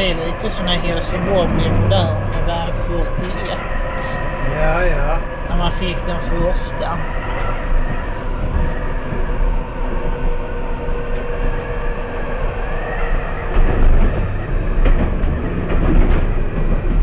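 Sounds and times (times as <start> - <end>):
tram wheels rumbling on rail: 0.0 - 17.0
humming tone: 0.2 - 16.0.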